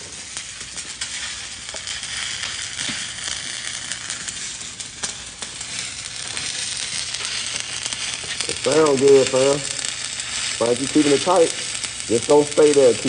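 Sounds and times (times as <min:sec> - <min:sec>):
welding arc crackling: 0:00.0 - 0:13.0.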